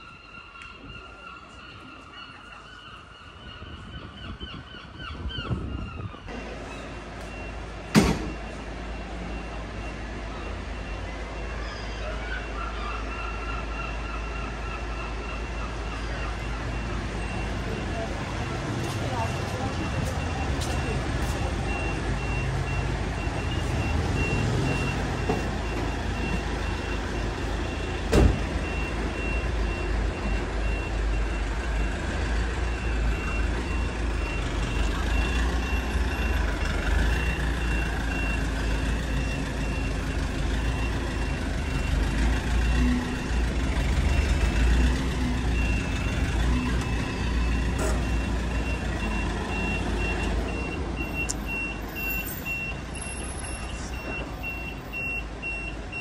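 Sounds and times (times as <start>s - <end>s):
truck engine rumble: 0.0s - 56.0s
truck reversing alarm beeping: 6.2s - 56.0s.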